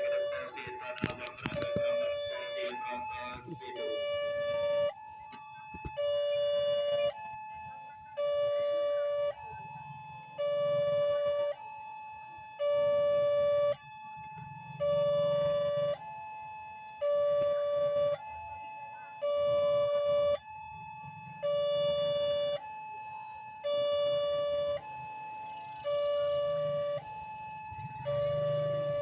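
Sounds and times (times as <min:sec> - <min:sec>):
two-tone crossing alarm: 0:00.0 - 0:29.0.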